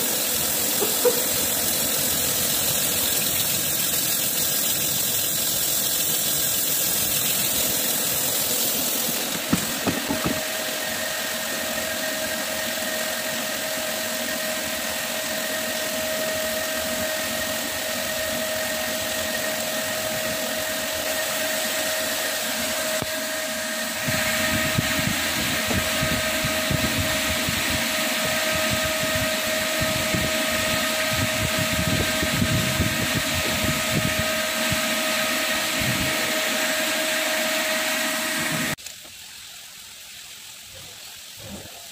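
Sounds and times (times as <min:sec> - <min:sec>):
metal lathe humming and whining: 0:00.0 - 0:38.8
coolant spray hiss: 0:00.0 - 0:41.9.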